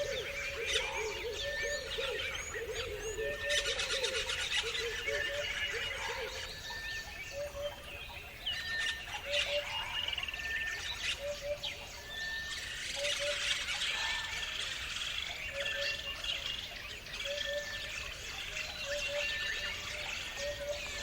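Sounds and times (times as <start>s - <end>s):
birds singing and chirping: 0.0s - 21.0s.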